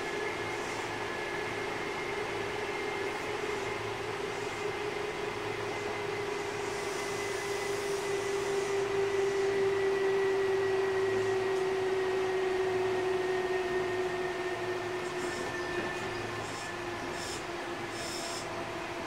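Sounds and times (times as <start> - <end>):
train running gear rumble: 0.0 - 19.0.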